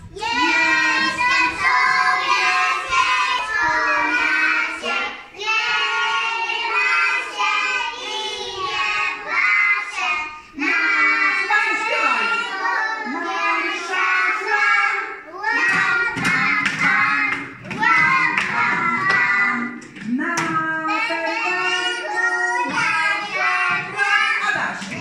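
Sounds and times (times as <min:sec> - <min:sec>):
children singing: 0:00.0 - 0:25.0.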